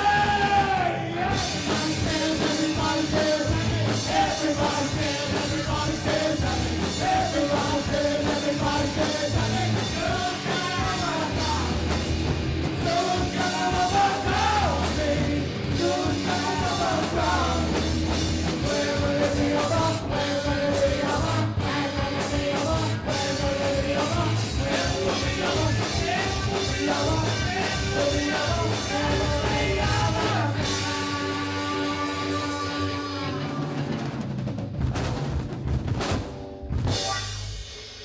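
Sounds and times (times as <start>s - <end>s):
person singing: 0.0s - 11.7s, 12.8s - 17.7s, 18.6s - 33.5s
live rock band playing: 0.0s - 38.0s.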